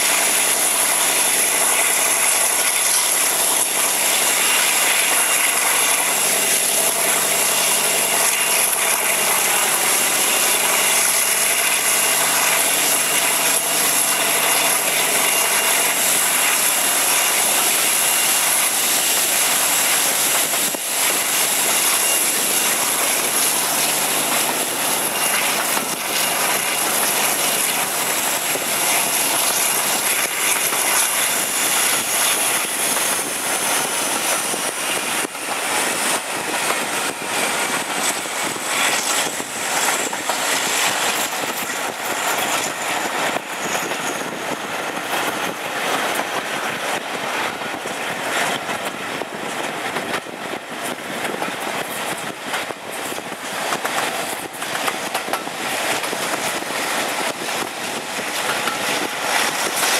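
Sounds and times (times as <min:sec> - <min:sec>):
diesel locomotive engine drone: 0:00.0 - 0:59.9
train wheel noise: 0:00.0 - 0:59.9
wind: 0:00.0 - 0:59.9.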